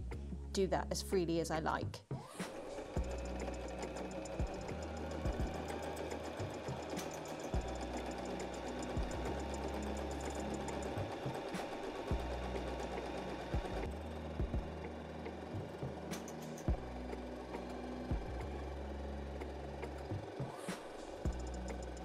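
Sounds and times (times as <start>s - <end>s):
sewing machine stitching rapidly: 2.3s - 22.0s.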